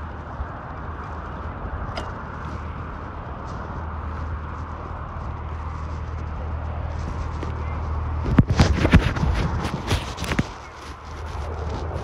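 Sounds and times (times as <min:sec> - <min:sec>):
bicycle tyre noise: 0:00.0 - 0:12.0
wind on microphone: 0:00.0 - 0:12.0.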